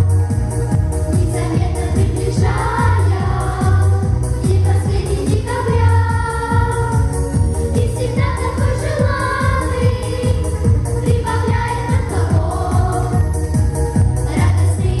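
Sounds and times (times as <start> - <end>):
pop backing track with beat: 0.0 - 15.0
children singing in unison: 1.2 - 7.1, 7.8 - 13.2, 14.3 - 15.0.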